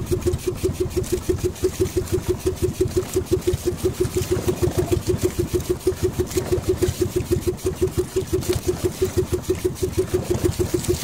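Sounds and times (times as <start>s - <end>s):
small boat engine pulsing: 0.0s - 11.0s.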